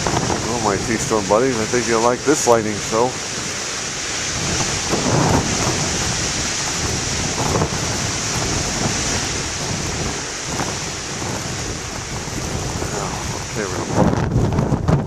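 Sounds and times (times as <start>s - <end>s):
surf crashing over rocks: 0.0s - 15.0s
wind buffeting microphone: 0.0s - 15.0s.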